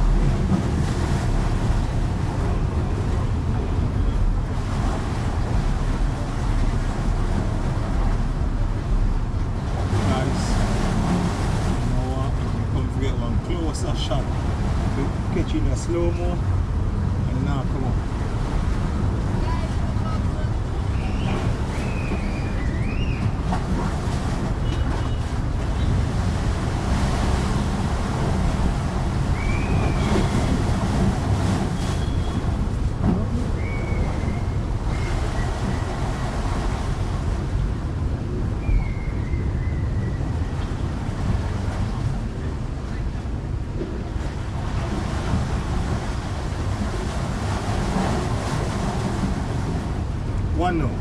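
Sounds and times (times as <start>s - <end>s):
sea waves: 0.0s - 51.0s
wind rumbling on microphone: 0.0s - 51.0s.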